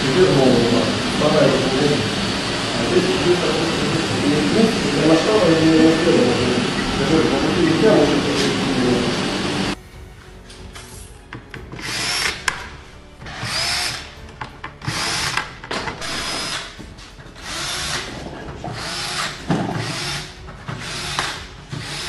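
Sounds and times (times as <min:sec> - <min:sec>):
cordless drill whining: 0:00.0 - 0:09.8, 0:11.8 - 0:14.2, 0:14.8 - 0:16.8, 0:17.4 - 0:22.0.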